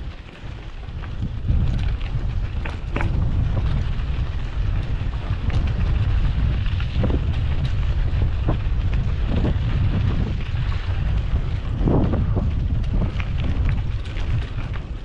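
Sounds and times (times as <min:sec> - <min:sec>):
bike rattles and knocks: 0:00.0 - 0:15.0
wind buffeting microphone: 0:00.0 - 0:15.0.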